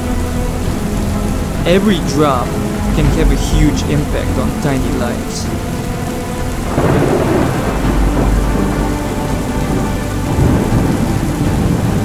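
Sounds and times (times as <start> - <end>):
heavy rain: 0.0 - 12.0
thunder rumbling: 0.0 - 12.0.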